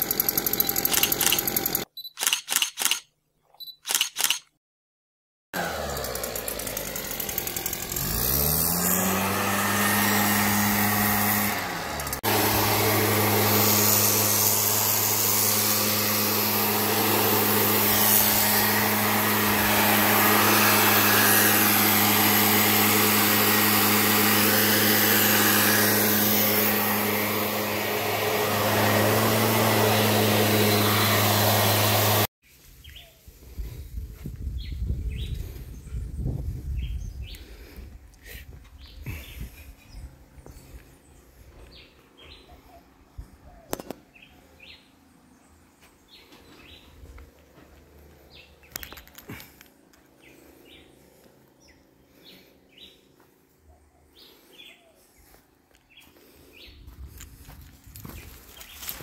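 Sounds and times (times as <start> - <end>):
leaf blower engine running: 0.0 - 1.9, 5.6 - 34.0, 36.8 - 42.7, 43.8 - 53.6, 54.2 - 59.0.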